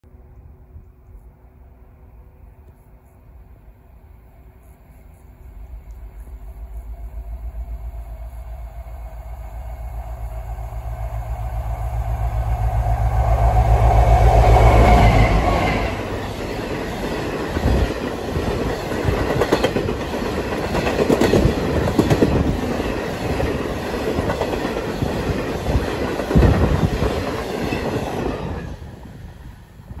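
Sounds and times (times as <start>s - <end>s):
diesel locomotive engine throbbing: 5.2s - 30.0s
freight train wheels rumbling: 5.2s - 30.0s.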